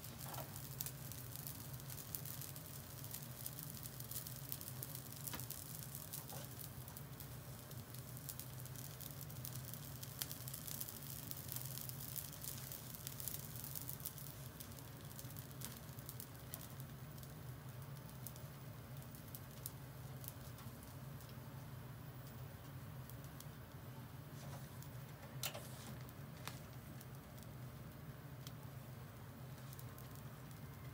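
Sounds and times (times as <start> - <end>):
food sizzling on a grill: 0.0 - 30.9
crackling ticks: 0.1 - 21.4, 24.8 - 28.8, 29.5 - 30.9.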